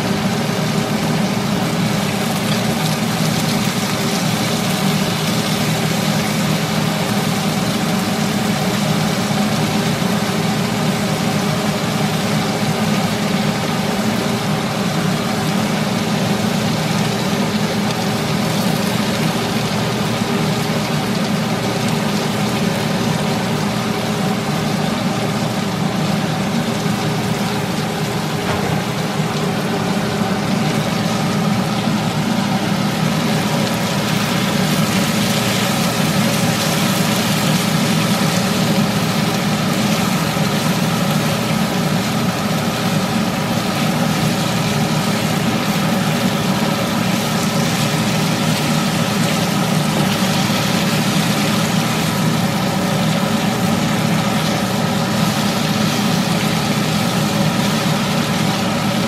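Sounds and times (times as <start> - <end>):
pork frying in a wok: 0.0 - 59.0
steady motor hum: 0.0 - 59.0.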